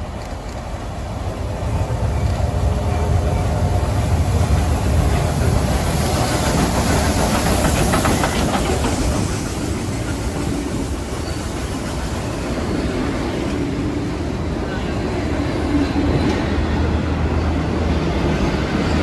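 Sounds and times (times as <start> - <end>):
train running on tracks: 0.0 - 19.0.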